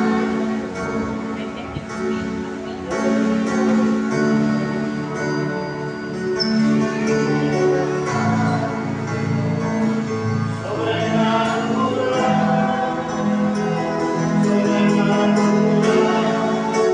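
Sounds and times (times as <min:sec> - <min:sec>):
electronic keyboard chords: 0:00.0 - 0:16.9.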